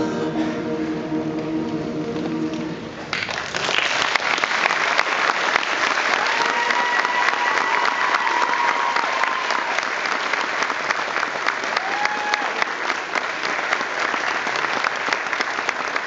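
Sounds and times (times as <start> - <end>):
audience applauding: 3.0 - 16.0.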